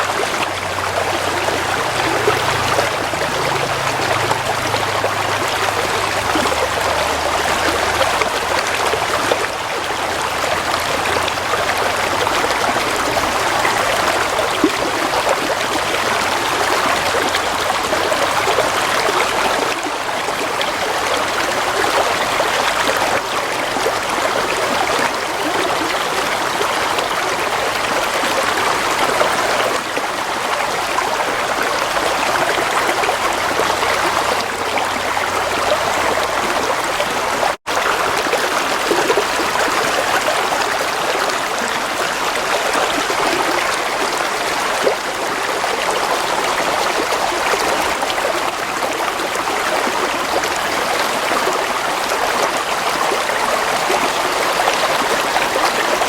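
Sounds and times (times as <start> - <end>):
gently flowing stream water: 0.0 - 56.0.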